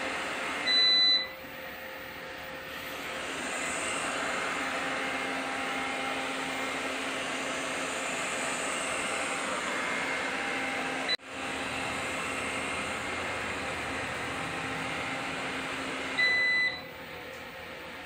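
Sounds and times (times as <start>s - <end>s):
robot vacuum cleaner humming: 0.0s - 18.0s.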